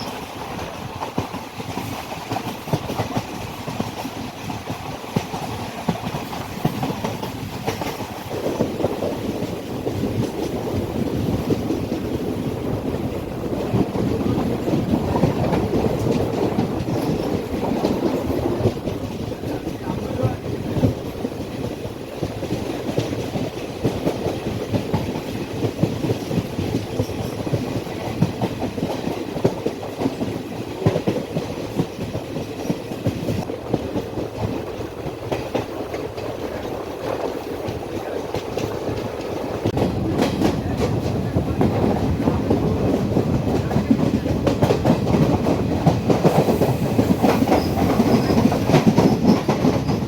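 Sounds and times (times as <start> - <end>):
train rumbling on track: 0.0 - 50.0
wheels clicking over rail joints: 0.0 - 50.0.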